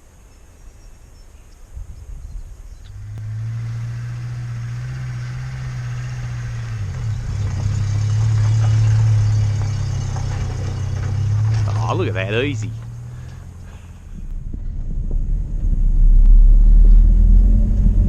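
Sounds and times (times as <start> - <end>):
vehicle engine running: 2.9 - 18.0.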